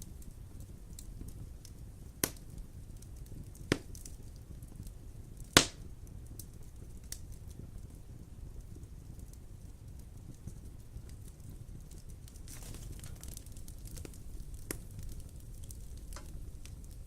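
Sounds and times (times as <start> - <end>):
sharp fire pops: 0.0 - 17.0
wood fire burning: 0.0 - 17.0.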